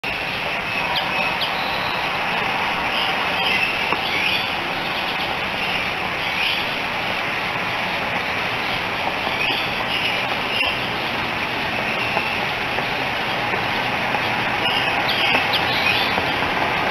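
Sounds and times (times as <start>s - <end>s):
rushing background noise: 0.0s - 16.9s.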